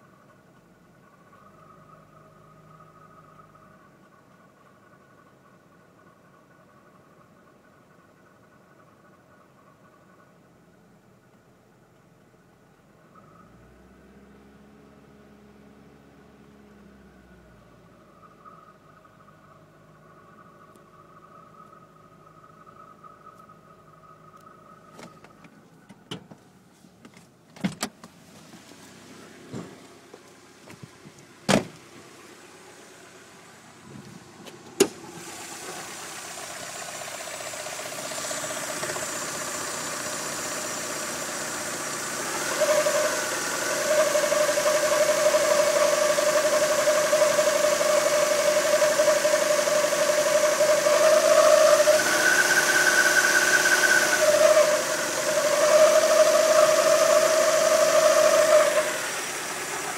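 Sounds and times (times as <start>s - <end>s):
car engine whining: 0.0s - 59.9s.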